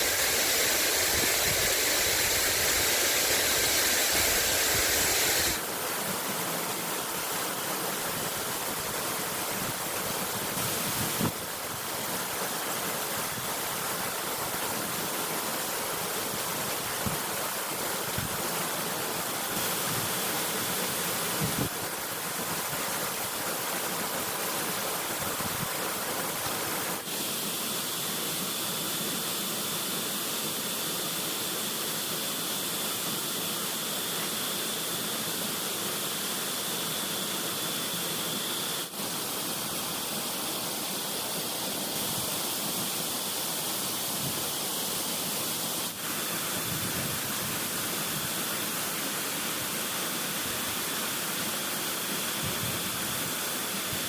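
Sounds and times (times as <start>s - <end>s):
water hissing: 0.0s - 54.0s.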